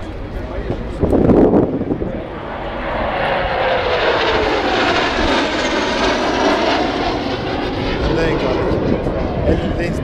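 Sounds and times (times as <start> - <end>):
jets roaring past: 0.0 - 10.0.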